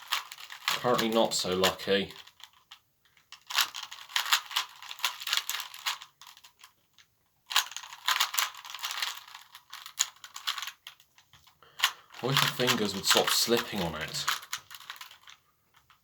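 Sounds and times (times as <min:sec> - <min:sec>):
plastic cube clacking turns: 0:00.0 - 0:16.0.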